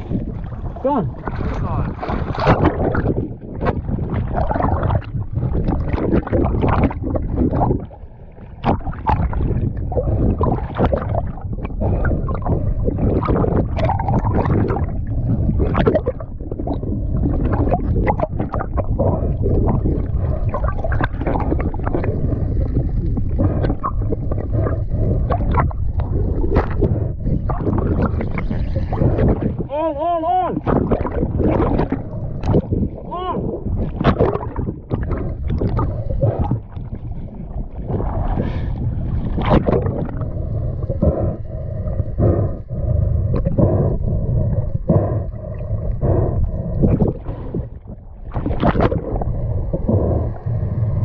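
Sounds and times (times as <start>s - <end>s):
steady low rumble: 0.0s - 51.0s
water splashing and bubbling: 0.0s - 51.0s.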